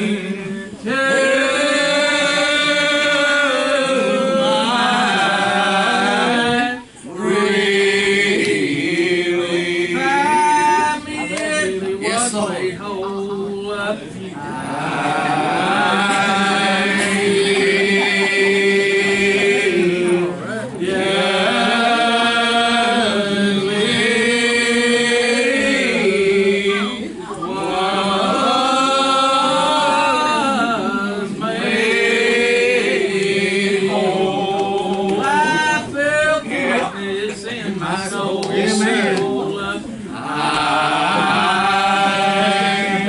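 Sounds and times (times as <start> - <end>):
voices singing gospel: 0.0 - 43.0.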